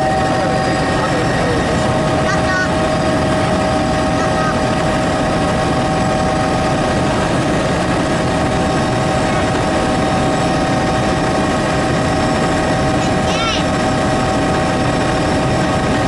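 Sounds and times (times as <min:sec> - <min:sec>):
constant whine: 0:00.0 - 0:16.0
helicopter rotor and engine drone: 0:00.0 - 0:16.0.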